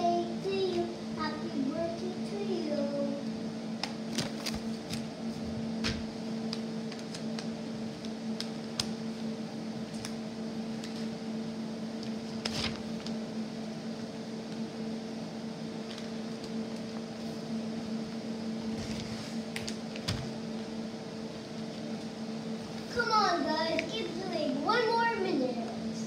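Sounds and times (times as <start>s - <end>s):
machine humming: 0.0s - 26.0s.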